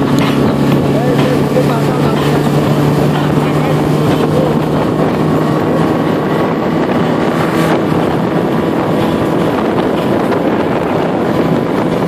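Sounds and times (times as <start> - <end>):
outboard motor running: 0.0 - 12.0
wind rushing over microphone: 0.0 - 12.0.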